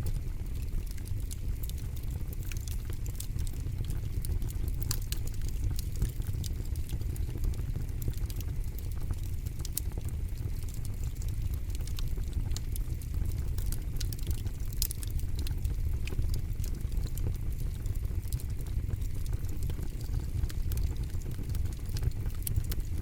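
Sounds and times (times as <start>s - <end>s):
campfire rumbling: 0.0s - 23.0s
wood crackling and popping: 0.0s - 23.0s.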